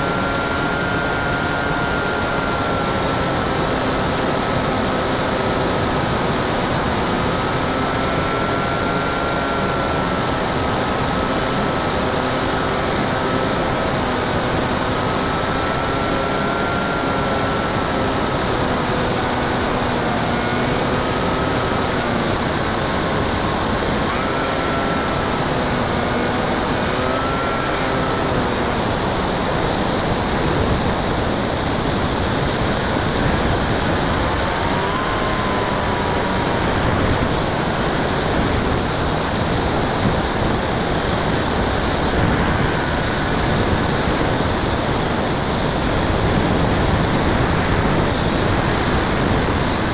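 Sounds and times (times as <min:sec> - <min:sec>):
electric motor and propeller whining: 0:00.0 - 0:49.9.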